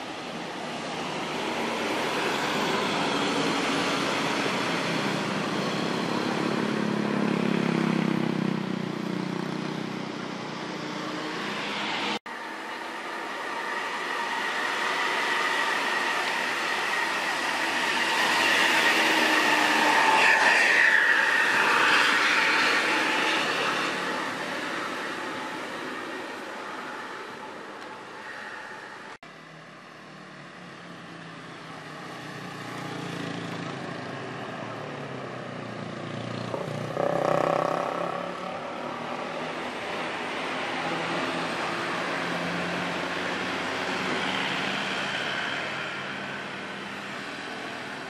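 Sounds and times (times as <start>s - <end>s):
diesel buses driving under load: 0.0s - 48.0s
motorcycles passing: 1.4s - 25.4s, 31.2s - 48.0s.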